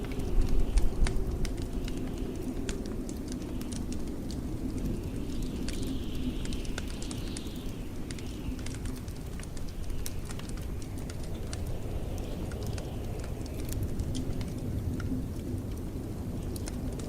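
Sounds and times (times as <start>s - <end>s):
blizzard wind rumbling: 0.0s - 17.0s
wood fire crackling: 0.0s - 17.0s.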